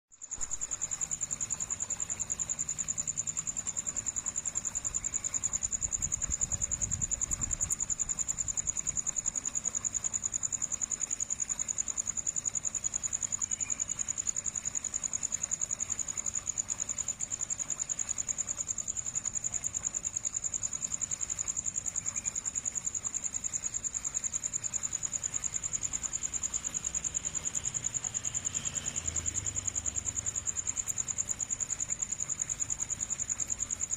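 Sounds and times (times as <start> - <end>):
insect trilling: 0.1 - 33.9.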